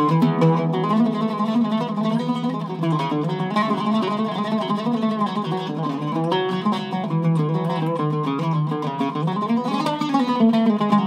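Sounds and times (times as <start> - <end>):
oud played with a plectrum: 0.0 - 11.0.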